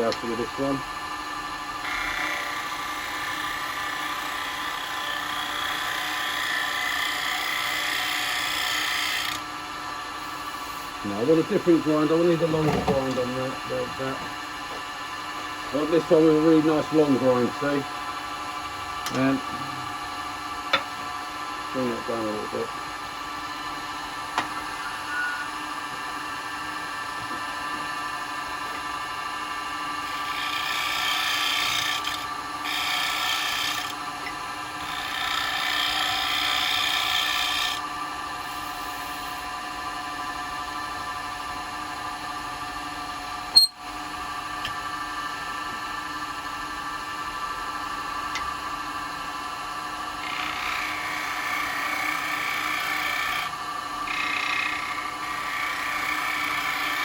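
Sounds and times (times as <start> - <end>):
turning tool cutting wood: 0.0 - 39.4, 49.4 - 57.0
lathe motor hum: 0.0 - 43.3, 44.2 - 57.0.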